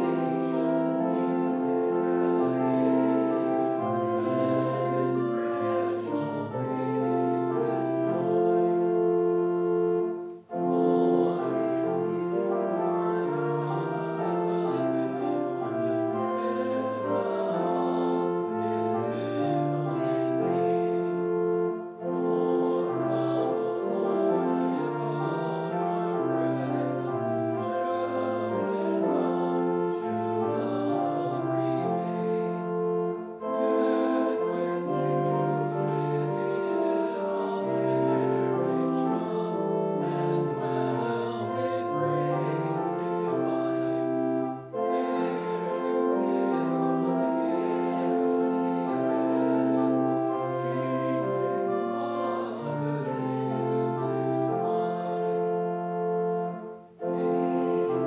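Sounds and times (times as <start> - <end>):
church organ playing hymn: 0.0 - 58.0.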